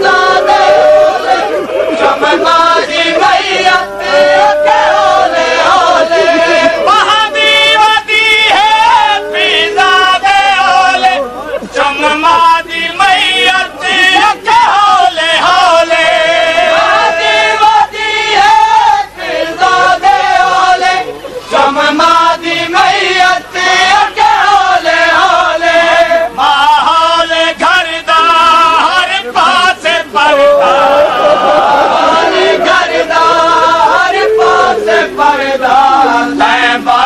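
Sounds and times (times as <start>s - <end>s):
men chanting a lament: 0.0s - 37.0s.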